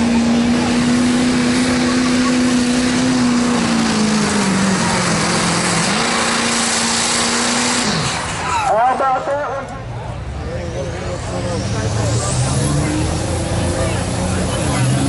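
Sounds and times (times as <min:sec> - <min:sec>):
diesel engine under heavy load: 0:00.0 - 0:15.0.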